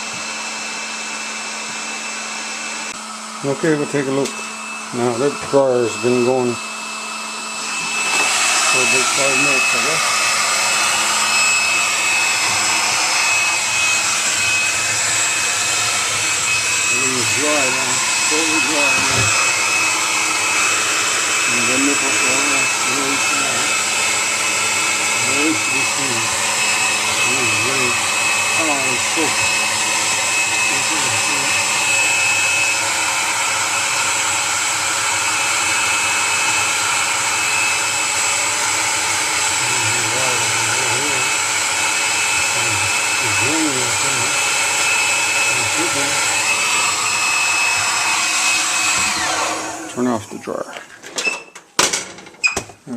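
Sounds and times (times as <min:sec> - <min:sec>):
hair dryer blowing with whine: 0:00.0 - 0:50.9.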